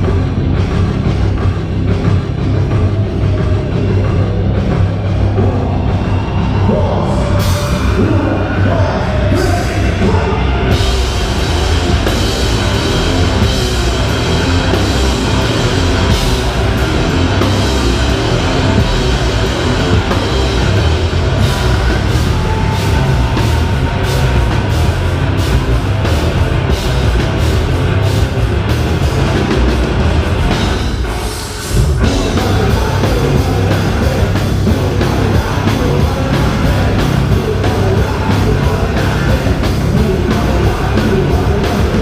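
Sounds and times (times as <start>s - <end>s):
heavy rock band playing: 0.0s - 42.0s.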